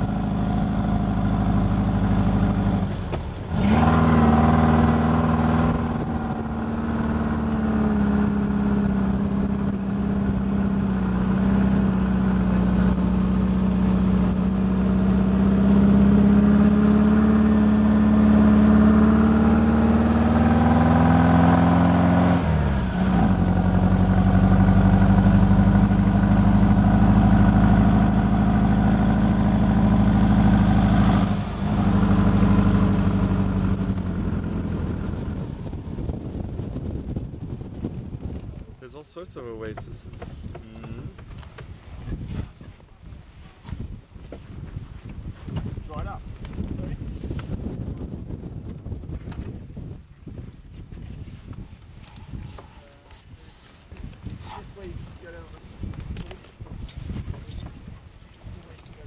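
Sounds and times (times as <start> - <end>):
dune buggy engine: 0.0 - 50.1, 50.7 - 59.0.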